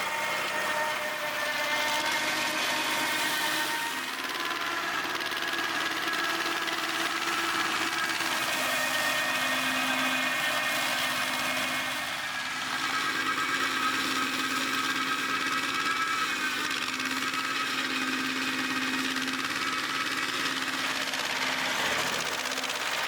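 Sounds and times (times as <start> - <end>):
tractor and flail mulcher running: 0.0 - 23.0.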